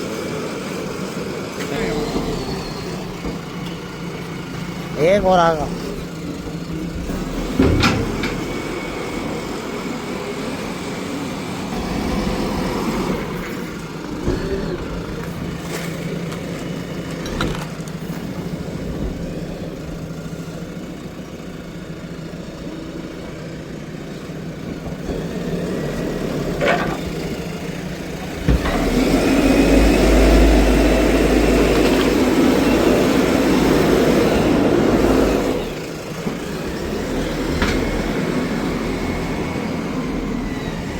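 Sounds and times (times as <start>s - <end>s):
backhoe diesel engine: 0.0s - 40.9s.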